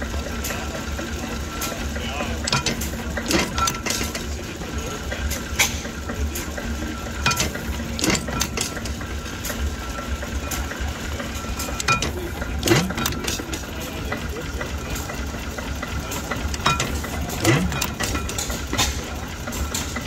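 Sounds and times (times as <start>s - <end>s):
metallic clinks from engine parts: 0.0s - 20.0s
stationary engine running slowly: 0.0s - 20.0s.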